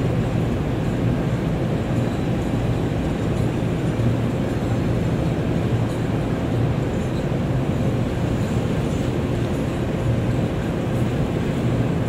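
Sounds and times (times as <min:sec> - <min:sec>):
boat diesel engine droning: 0:00.0 - 0:12.0.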